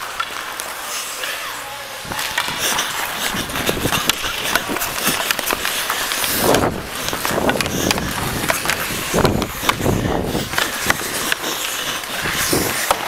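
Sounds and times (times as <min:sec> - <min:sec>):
hockey sticks clicking: 0:00.0 - 0:13.0
skate blades scraping ice: 0:00.0 - 0:13.0.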